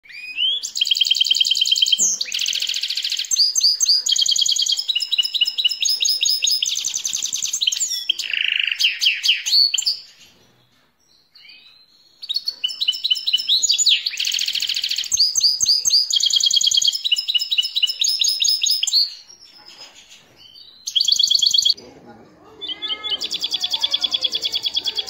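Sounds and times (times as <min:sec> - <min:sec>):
finch singing trills: 0:00.1 - 0:10.5, 0:11.2 - 0:21.8, 0:22.6 - 0:25.0.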